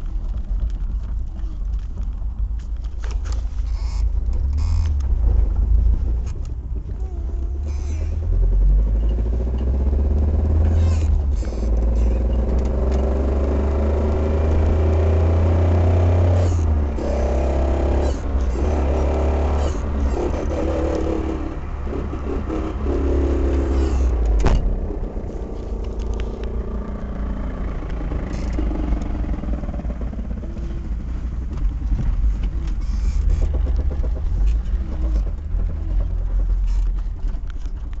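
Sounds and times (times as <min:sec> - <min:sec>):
car interior low rumble: 0:00.0 - 0:38.0
droning whine: 0:02.6 - 0:37.0.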